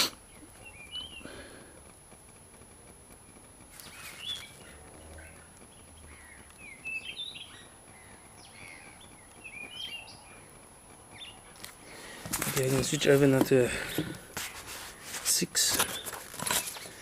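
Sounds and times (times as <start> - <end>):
faint steady hiss: 0.0 - 17.0
birds chirping: 0.2 - 1.9, 3.7 - 14.7, 15.4 - 17.0.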